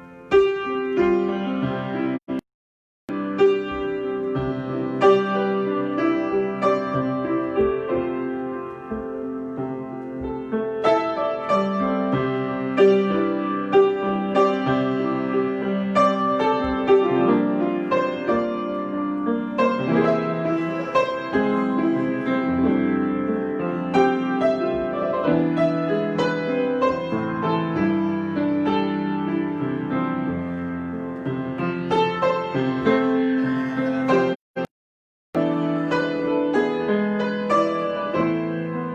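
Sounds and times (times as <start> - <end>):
solo piano improvisation: 0.0 - 2.4, 3.1 - 34.7, 35.4 - 38.9.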